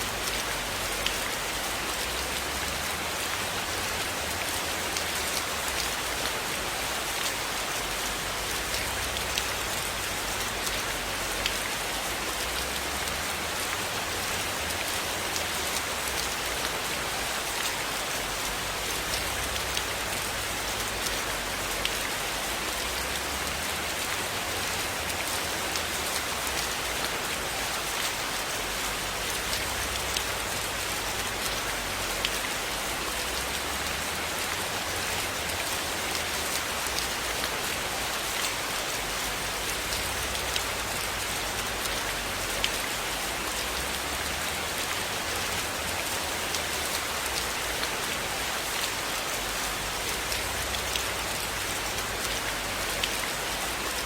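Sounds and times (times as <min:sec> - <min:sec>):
heavy rainfall: 0:00.0 - 0:54.0.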